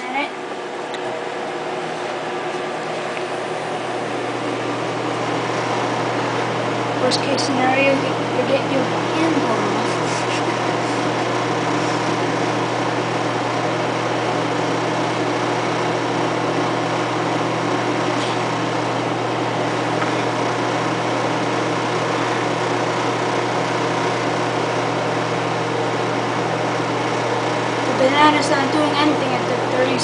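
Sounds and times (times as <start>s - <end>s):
microwave fan whir: 0.0s - 30.0s
microwave oven hum: 0.0s - 30.0s.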